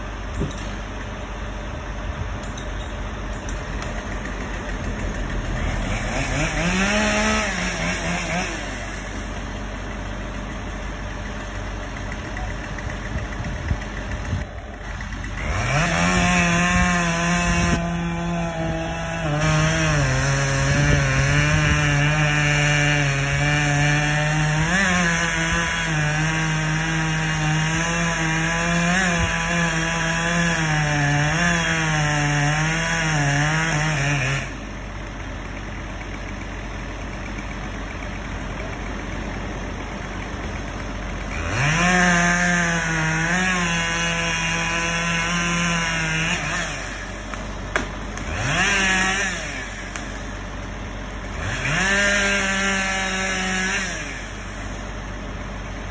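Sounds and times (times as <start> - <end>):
chainsaw cutting wood: 0.0 - 1.6, 2.4 - 55.9.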